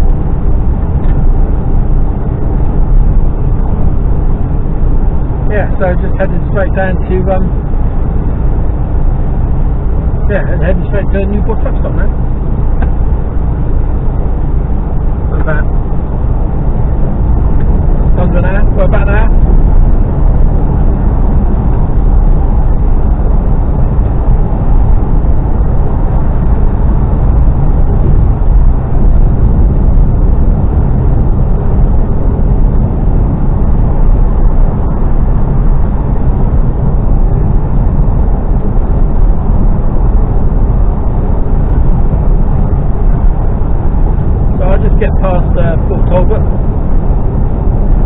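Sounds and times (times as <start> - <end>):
lorry engine and road drone: 0.0 - 48.0.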